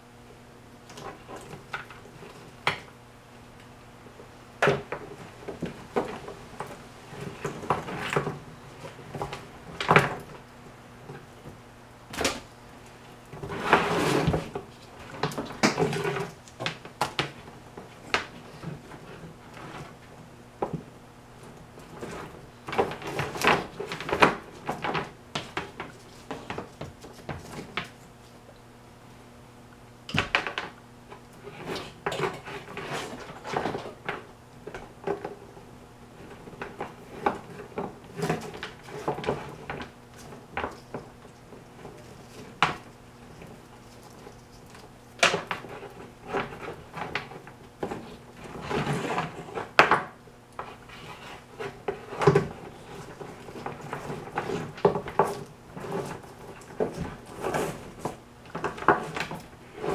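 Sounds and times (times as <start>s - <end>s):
faint steady hum: 0.0s - 59.9s
wires rustling: 0.8s - 28.8s, 30.0s - 59.9s.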